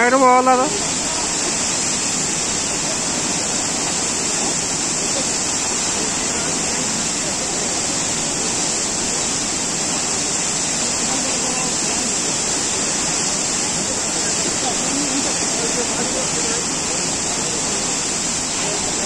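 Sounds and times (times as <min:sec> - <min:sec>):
waterfall pouring: 0:00.0 - 0:19.0.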